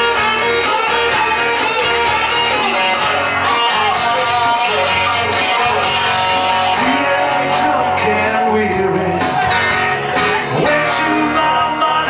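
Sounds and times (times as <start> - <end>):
lead electric guitar: 0.0 - 12.0
strummed acoustic guitars: 0.0 - 12.0.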